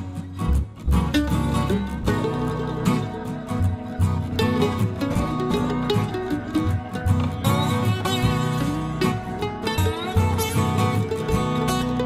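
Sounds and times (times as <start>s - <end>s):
instrumental music with bass: 0.0s - 12.0s.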